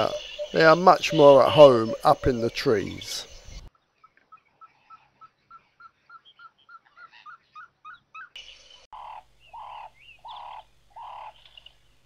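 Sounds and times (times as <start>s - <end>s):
higher bird chirps: 0.0s - 11.8s
birds calling: 0.0s - 12.0s.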